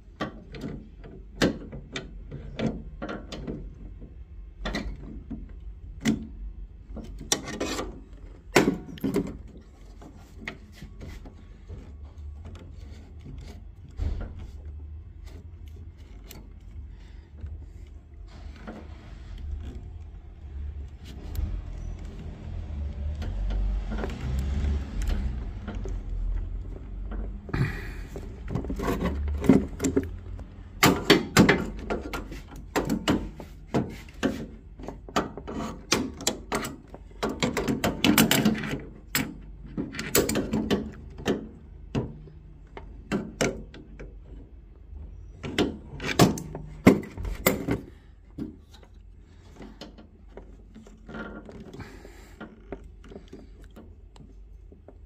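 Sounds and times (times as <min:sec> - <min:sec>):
metal clicks and knocks: 0:00.0 - 0:44.5, 0:45.4 - 0:55.0.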